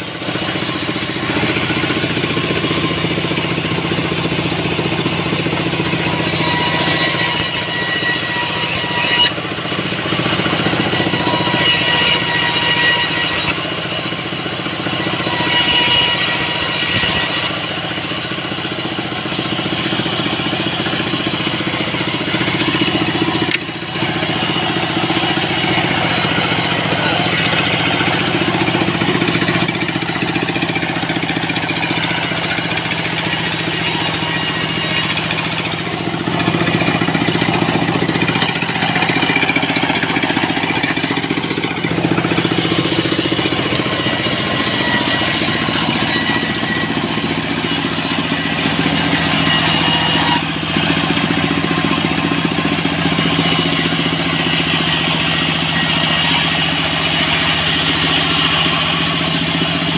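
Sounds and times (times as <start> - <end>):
sawmill sawing wood: 0.0 - 59.9.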